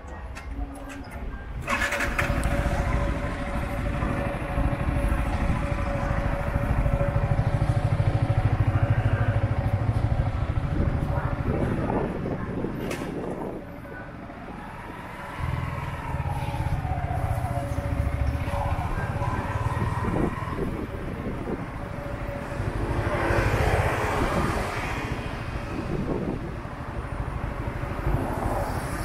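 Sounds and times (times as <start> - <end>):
motorbike engine rumbling: 0.2 - 27.9.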